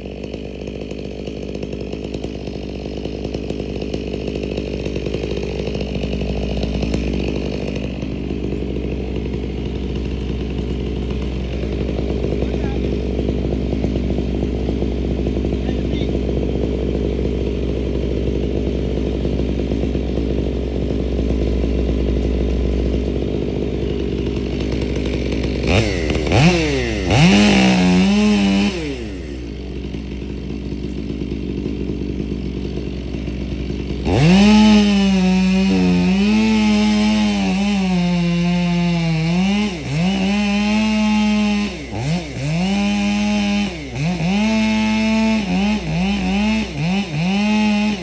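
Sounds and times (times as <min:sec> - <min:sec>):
chainsaw engine idling and revving: 0:00.0 - 0:48.0.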